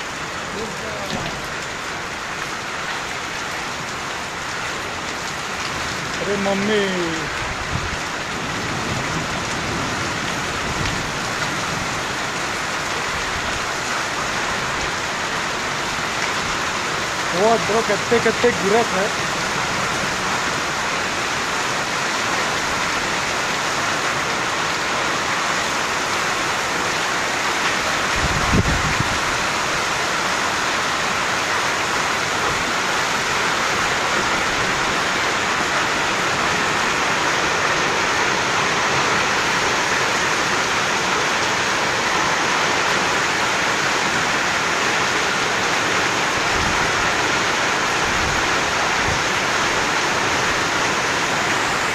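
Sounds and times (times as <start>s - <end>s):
heavy rain and hail: 0.0s - 51.9s.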